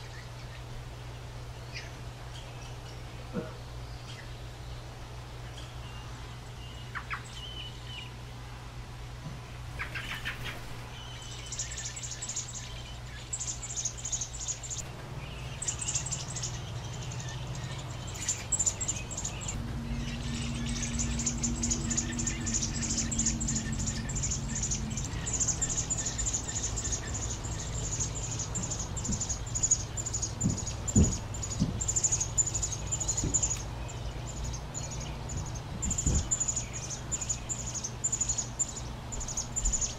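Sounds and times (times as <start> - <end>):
nestlings peeping: 0.0 - 8.2, 9.5 - 39.9
low steady hum: 0.0 - 39.9.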